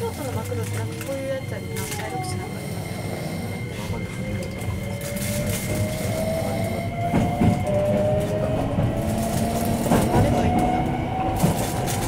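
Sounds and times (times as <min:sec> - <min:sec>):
low rumble of train wheels: 0:00.0 - 0:12.0
train motor whine: 0:00.3 - 0:12.0.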